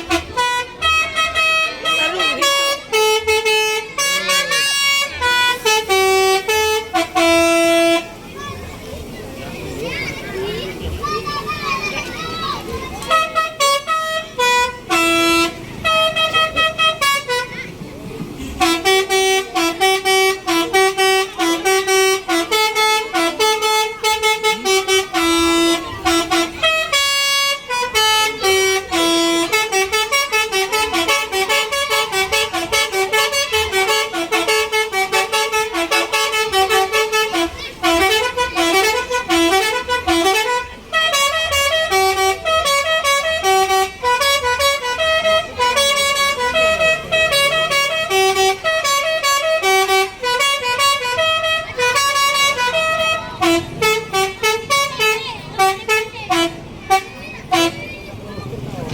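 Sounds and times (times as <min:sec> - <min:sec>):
bus horn playing melodic tunes: 0:00.0 - 0:58.9.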